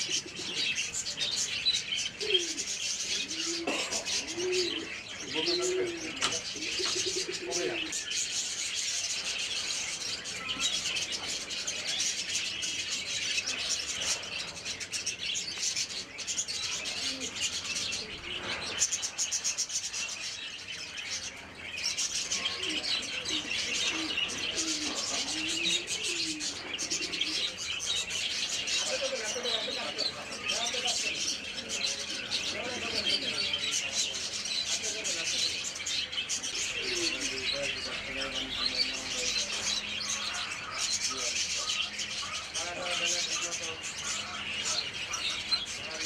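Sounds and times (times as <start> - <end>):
budgerigars chattering: 0.0 - 46.0.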